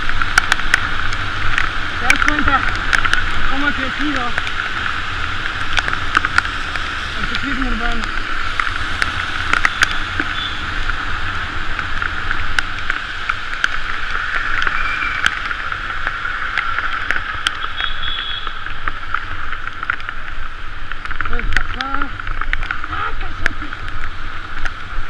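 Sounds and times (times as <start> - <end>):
bicycle tyres hissing on wet asphalt: 0.0 - 25.0.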